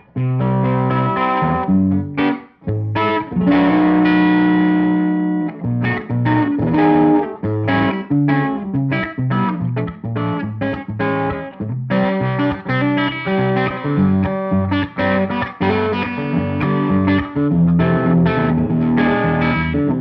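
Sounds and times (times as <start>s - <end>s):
overdriven electric guitar strumming: 0.0s - 20.0s.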